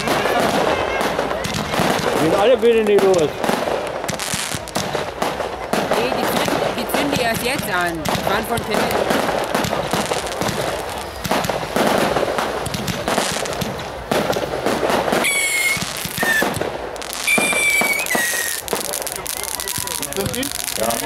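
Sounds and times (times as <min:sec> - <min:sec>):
ground fireworks crackling: 0:00.0 - 0:21.0
high fireworks whistles: 0:00.0 - 0:21.0.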